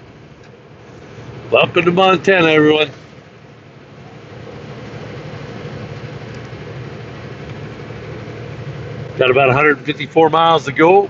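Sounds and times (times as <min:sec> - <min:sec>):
road and wind noise: 0:00.0 - 0:11.0
truck engine drone: 0:00.0 - 0:11.0.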